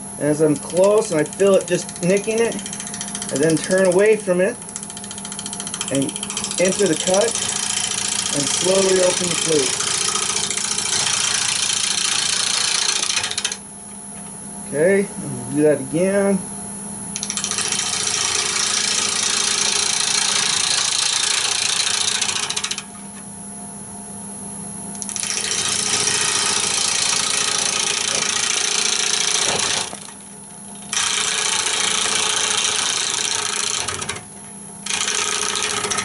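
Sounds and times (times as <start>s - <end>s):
lathe motor hum: 0.0s - 13.6s, 17.2s - 22.9s, 25.0s - 36.0s
gouge cutting spinning wood: 0.4s - 13.6s, 17.2s - 22.9s, 25.0s - 34.2s, 34.8s - 36.0s.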